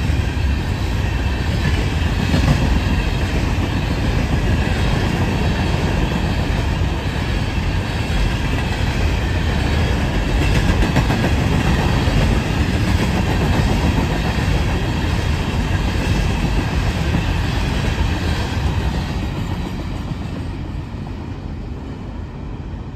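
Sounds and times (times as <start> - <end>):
freight train wheels clacking: 0.0 - 22.1.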